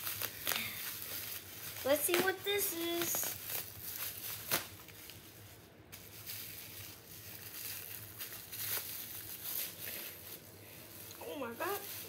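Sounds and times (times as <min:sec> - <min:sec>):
bubble wrap rustling and crinkling: 0:00.0 - 0:12.0.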